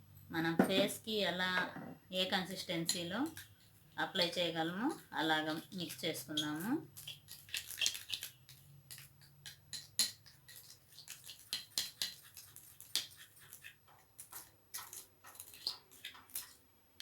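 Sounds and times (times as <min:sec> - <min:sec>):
spoon scraping bowl: 0:02.3 - 0:16.6.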